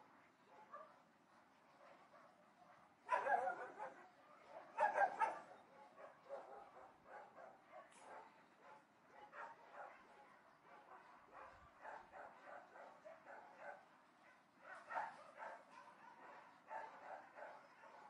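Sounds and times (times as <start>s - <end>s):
distant dogs barking: 1.8s - 18.0s.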